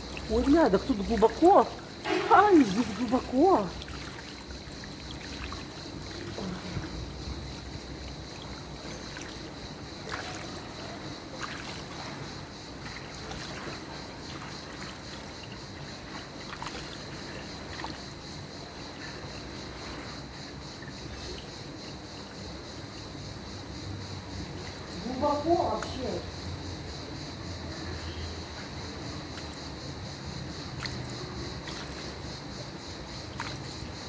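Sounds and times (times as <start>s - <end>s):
small splashes: 0.0s - 23.7s, 28.6s - 34.0s
pool water lapping: 0.0s - 34.0s.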